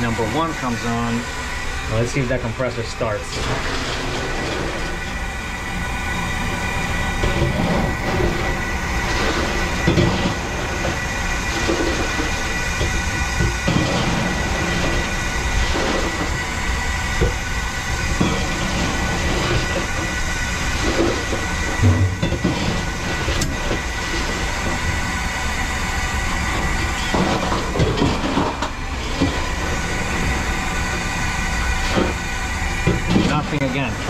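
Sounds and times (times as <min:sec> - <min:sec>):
ice maker humming: 0:00.0 - 0:34.0.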